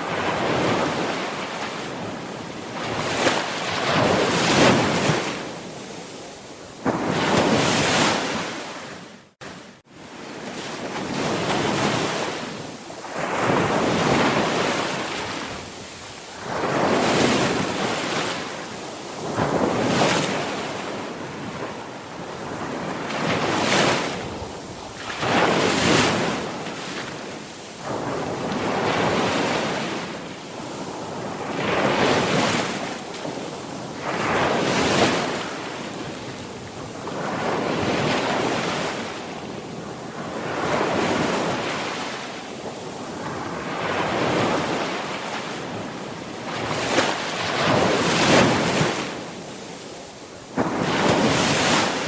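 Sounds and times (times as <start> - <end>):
sea waves breaking on shore: 0.0 - 52.0.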